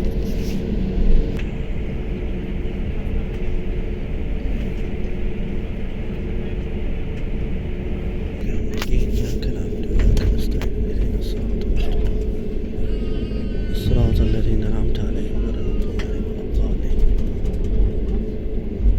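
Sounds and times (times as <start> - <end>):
airplane cabin engine rumble: 0.0 - 18.9.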